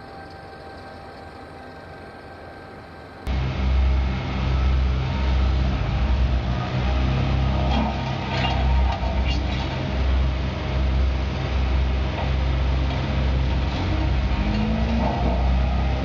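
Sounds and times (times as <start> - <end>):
heavy machine engine running: 0.0 - 16.0.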